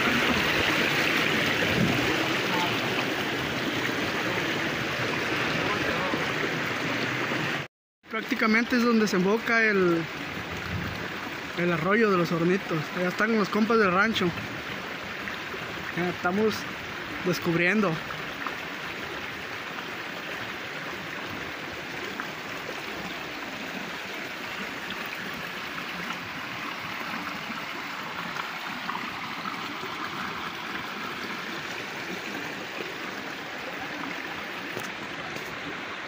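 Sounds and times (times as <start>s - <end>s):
creek water running over rocks: 0.0s - 36.0s.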